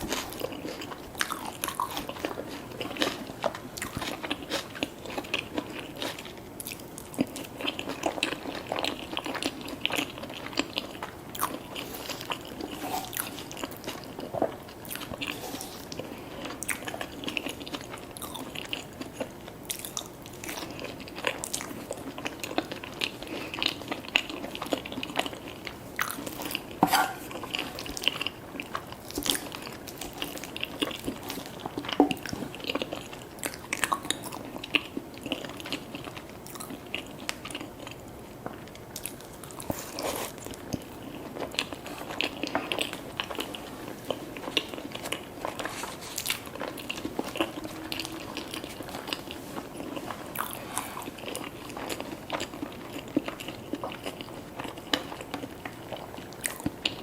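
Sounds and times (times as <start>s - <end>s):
chewing: 0.0s - 57.0s
food crunching: 0.0s - 57.0s.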